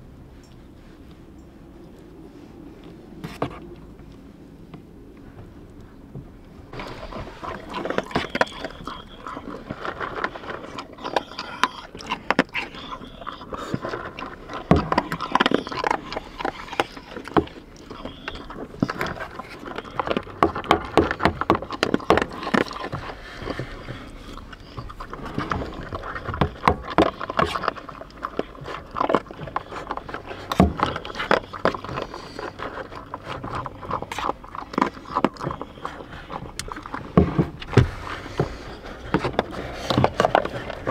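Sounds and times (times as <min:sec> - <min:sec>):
dog eating from a bowl: 0:06.7 - 0:40.9.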